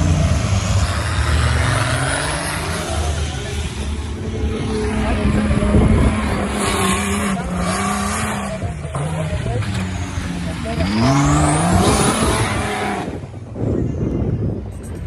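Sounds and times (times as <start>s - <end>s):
racing engines droning: 0.0s - 15.0s.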